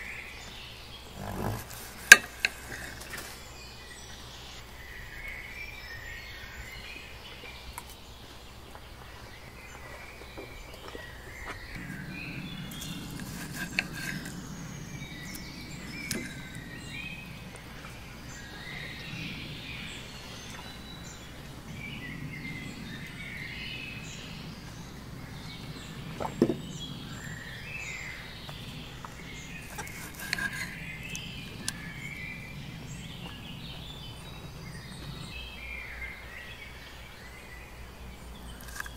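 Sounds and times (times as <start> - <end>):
birds chirping and calling: 0.0 - 38.9
steady low rumble: 0.0 - 38.9.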